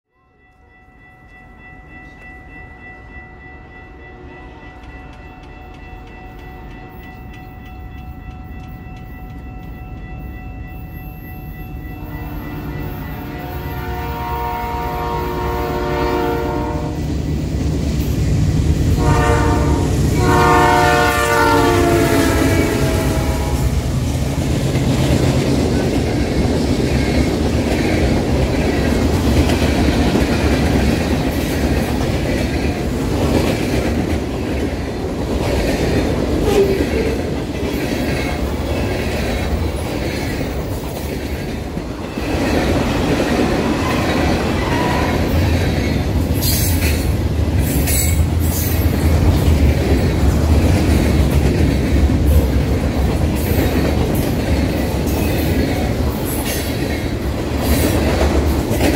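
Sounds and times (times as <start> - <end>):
diesel locomotives: 0.2 - 58.9.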